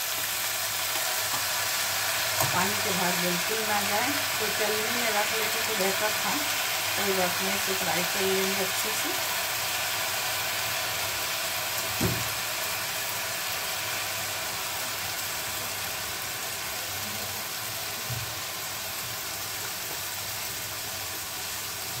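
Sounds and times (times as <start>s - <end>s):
rice sizzling in oil: 0.0s - 22.0s.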